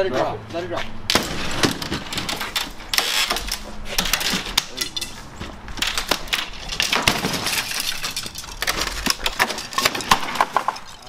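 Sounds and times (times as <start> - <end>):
wooden frame cracking and splintering: 1.1 - 5.1, 5.7 - 11.0.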